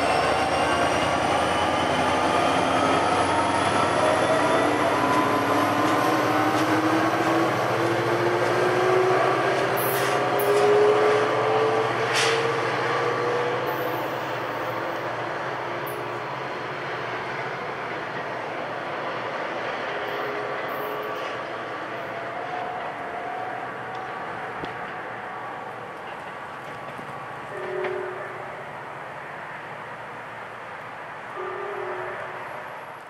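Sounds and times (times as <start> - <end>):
diesel locomotive accelerating: 0.0 - 33.0
rail noise: 0.0 - 33.0.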